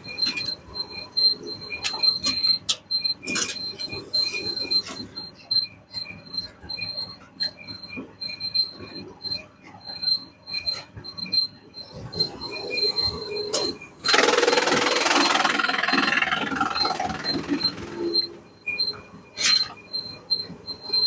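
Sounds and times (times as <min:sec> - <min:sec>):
machinery squeaks and knocks: 0:00.0 - 0:21.0.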